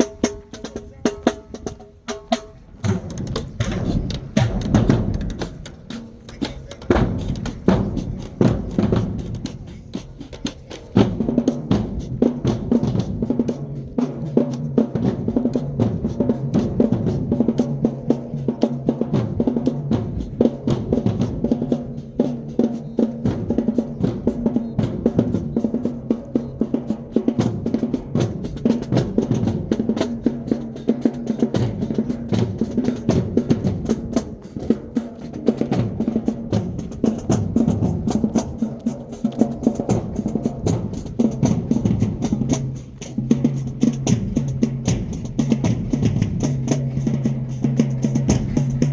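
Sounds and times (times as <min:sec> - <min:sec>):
marching band playing: 0:00.0 - 0:48.9
snare drums and rolls: 0:00.0 - 0:48.9.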